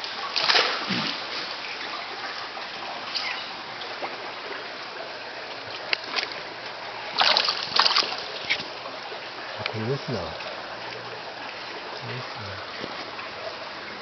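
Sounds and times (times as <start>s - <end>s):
running water rushing: 0.0s - 14.0s
water splashes: 0.0s - 14.0s.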